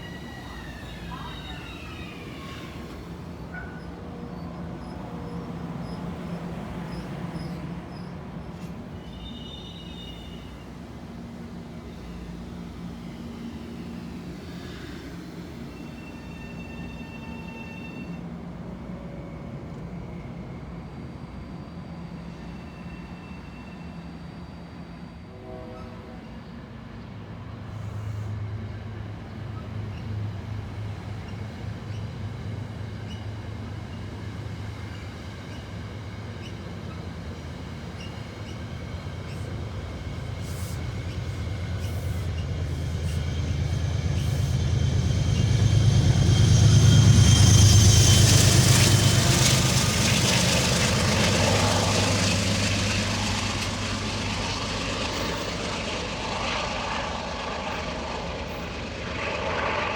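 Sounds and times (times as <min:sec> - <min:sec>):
wheels hissing on rails: 0:00.0 - 0:25.2, 0:26.2 - 0:59.9
train passing with low hum: 0:00.0 - 0:59.9.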